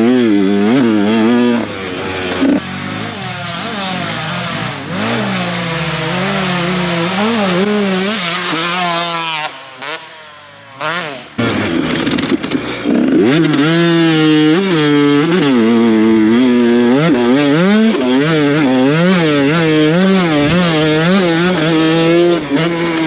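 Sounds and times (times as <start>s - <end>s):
two-stroke dirt bike engine revving: 0.0s - 23.0s.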